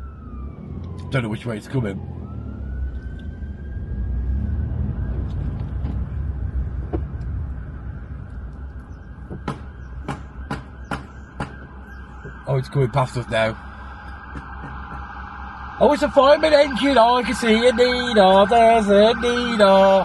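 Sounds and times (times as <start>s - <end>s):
car engine rumble and road noise: 0.0s - 20.0s
faint fire engine siren: 0.0s - 20.0s.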